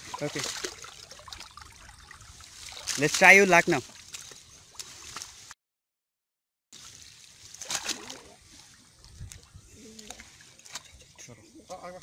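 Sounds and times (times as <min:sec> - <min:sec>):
water splashing and sloshing: 0:00.0 - 0:05.6, 0:06.8 - 0:11.7.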